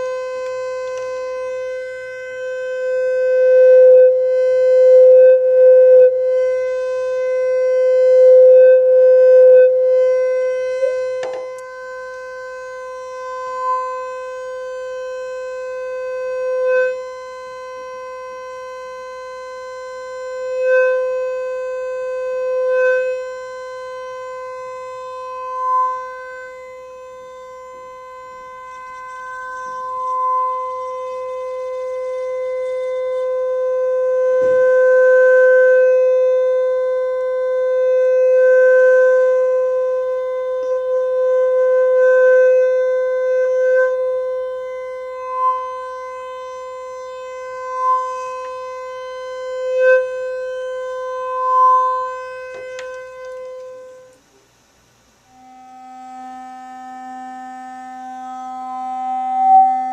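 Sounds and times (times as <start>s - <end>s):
steady single-pitch tone: 0.0s - 59.9s.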